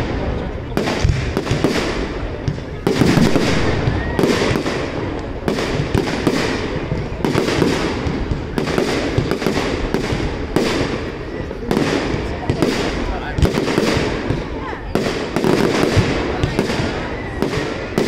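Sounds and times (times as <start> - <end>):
fireworks crackling rumble: 0.0 - 18.0.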